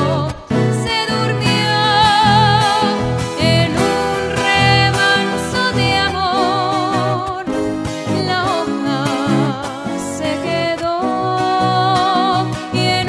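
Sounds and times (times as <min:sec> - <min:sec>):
acoustic guitars plucked and strummed: 0:00.0 - 0:13.0
woman singing a ballad: 0:00.0 - 0:13.0.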